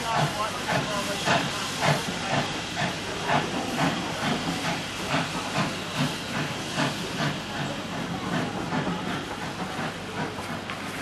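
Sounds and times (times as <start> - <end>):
steam hissing: 0.0 - 11.0
steam locomotive exhaust chuffs: 0.0 - 11.0.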